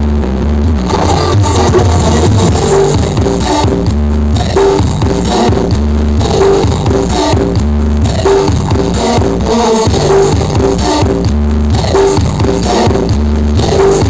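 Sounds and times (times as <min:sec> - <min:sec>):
loud dance music with heavy bass: 0:00.0 - 0:14.0.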